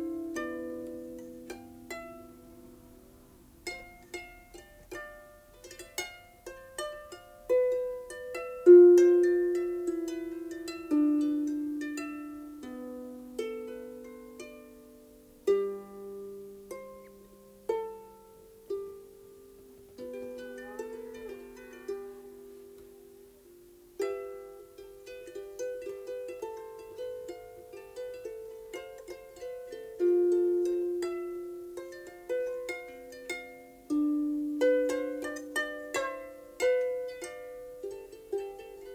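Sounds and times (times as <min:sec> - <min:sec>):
harp melody: 0:00.0 - 0:38.9.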